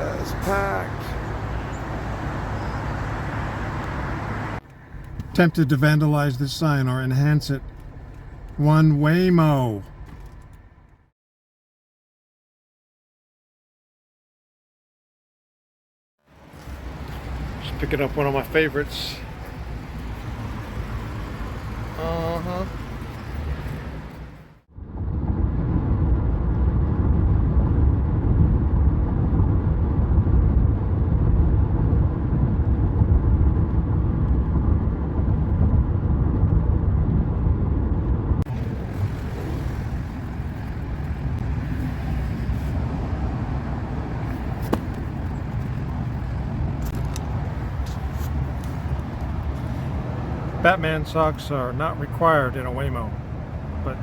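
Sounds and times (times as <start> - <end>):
car road and engine rumble: 0.0 - 11.1, 16.2 - 54.0.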